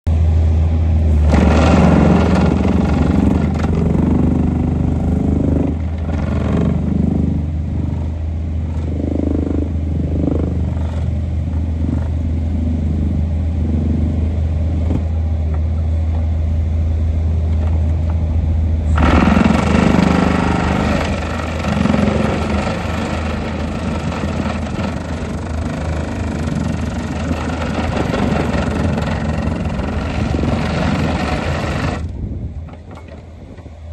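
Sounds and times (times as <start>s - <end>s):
diesel engine and hydraulics: 0.1s - 33.9s
plate compactor vibration hum: 0.1s - 33.9s.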